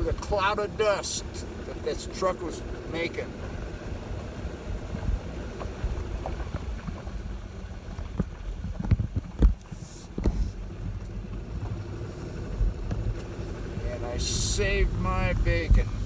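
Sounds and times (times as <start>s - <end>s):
engine and tyres rumble: 0.0s - 16.0s.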